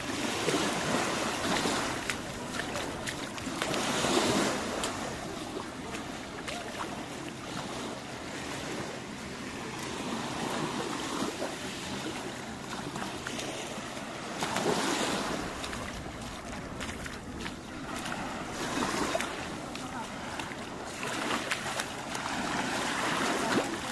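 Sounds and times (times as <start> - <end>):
small waves on sandy beach: 0.0 - 23.9.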